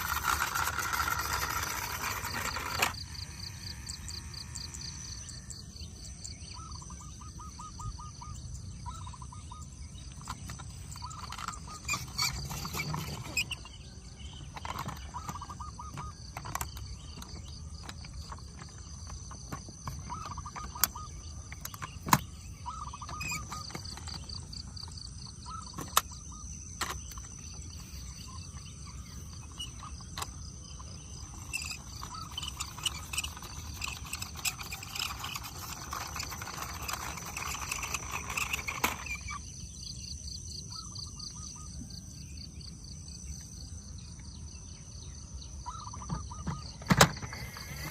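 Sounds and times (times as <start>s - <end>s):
rapid chirping: 0.0s - 41.8s
high insect trill: 0.0s - 47.9s.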